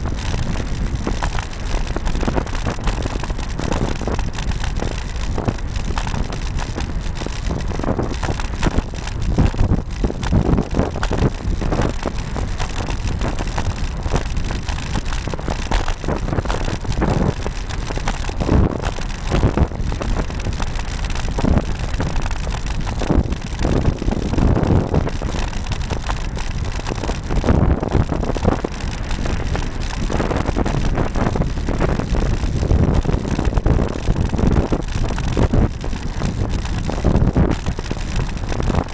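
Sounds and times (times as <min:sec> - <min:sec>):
mount and bike rattling: 0:00.0 - 0:38.9
tyre and road noise: 0:00.0 - 0:38.9
wind buffeting microphone: 0:00.0 - 0:38.9.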